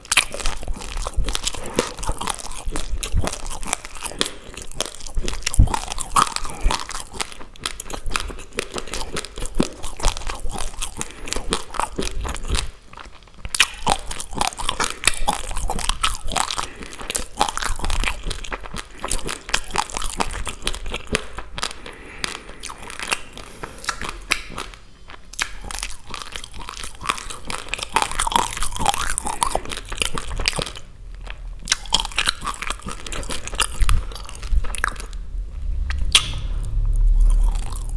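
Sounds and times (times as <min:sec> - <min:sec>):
crunching raw rice: 0:00.0 - 0:35.2.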